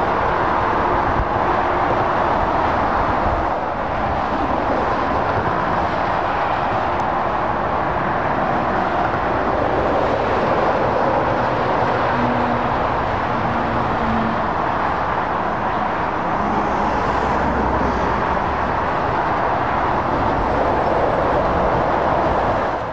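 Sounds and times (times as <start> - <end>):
motorway traffic: 0.0 - 22.9.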